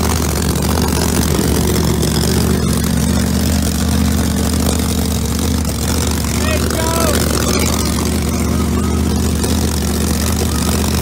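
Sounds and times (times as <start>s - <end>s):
race car engines idling: 0.0s - 11.0s.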